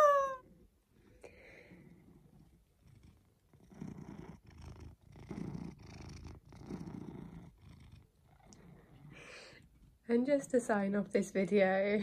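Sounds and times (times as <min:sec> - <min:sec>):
cat purring softly: 0:00.5 - 0:11.8.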